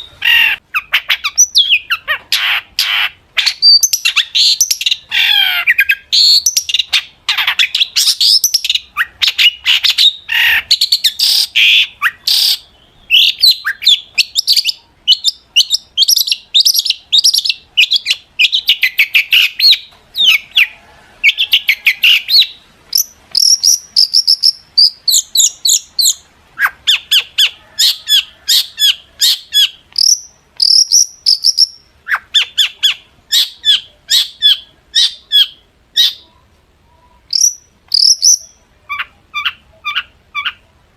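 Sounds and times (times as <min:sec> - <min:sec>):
bird chattering song: 0:00.0 - 0:40.7.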